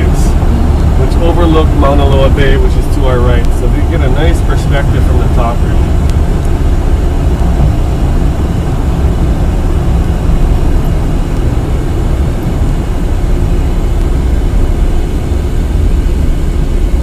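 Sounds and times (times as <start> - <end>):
engine and road noise in cabin: 0.0 - 17.0.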